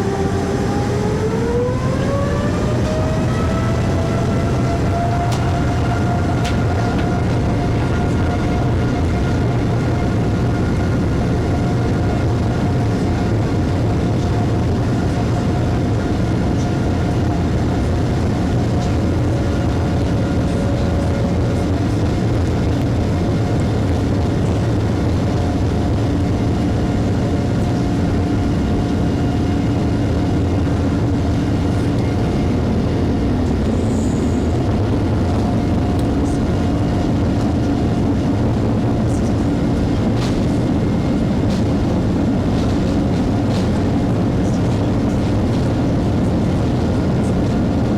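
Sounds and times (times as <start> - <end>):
airplane cabin engine rumble: 0.0 - 47.9
faint steady whines: 0.0 - 47.9.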